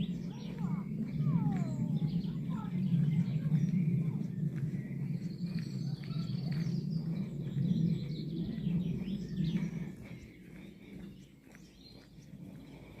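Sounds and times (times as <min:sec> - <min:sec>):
birds chirping and singing: 0:00.0 - 0:13.0
low steady rumble: 0:00.0 - 0:13.0.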